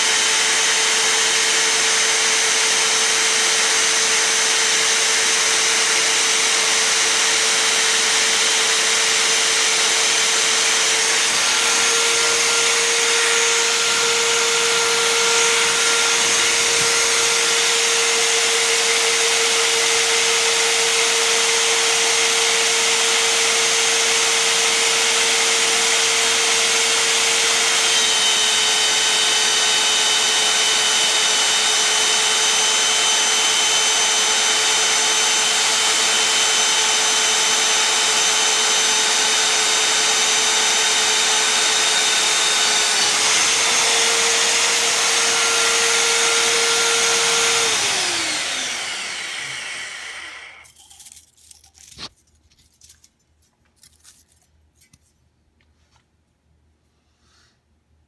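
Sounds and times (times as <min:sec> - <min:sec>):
magnetic drill drilling steel: 0:00.0 - 0:52.1.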